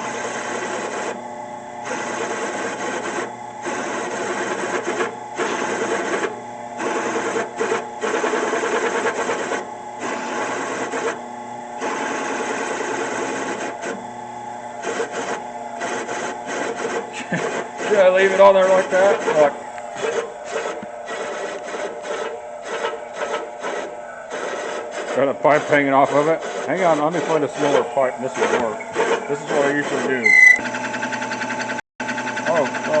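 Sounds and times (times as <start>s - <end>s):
drill bit cutting steel pipe: 0.0s - 33.0s
drill press motor hum: 0.0s - 33.0s.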